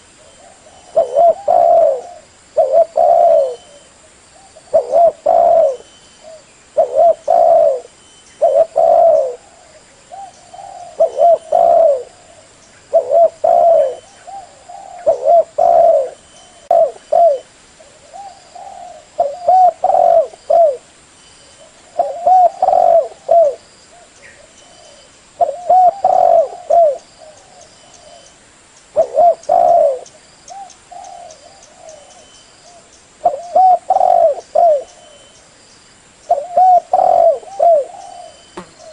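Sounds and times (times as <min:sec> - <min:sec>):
dove cooing: 0:00.3 - 0:20.9, 0:21.6 - 0:28.3, 0:28.9 - 0:35.4, 0:36.3 - 0:38.9.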